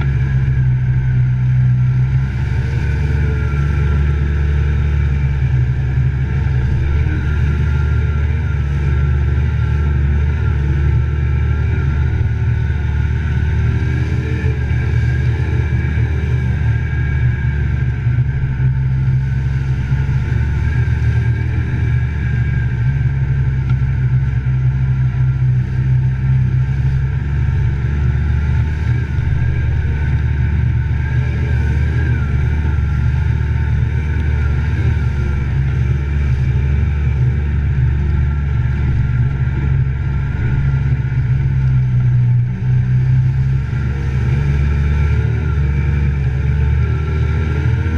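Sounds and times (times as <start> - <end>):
high whine: 0.0 - 47.9
utility vehicle engine running: 0.0 - 47.9.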